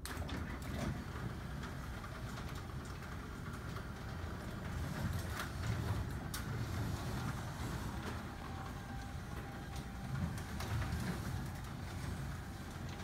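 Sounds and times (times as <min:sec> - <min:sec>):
garage door rumbling along track: 0:00.0 - 0:13.0
sharp clicks of garage door: 0:00.0 - 0:13.0.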